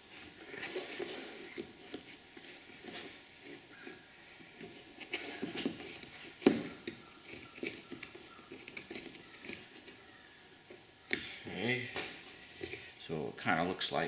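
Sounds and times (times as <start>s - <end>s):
rubber tube rubbing and handling: 0.0s - 13.0s.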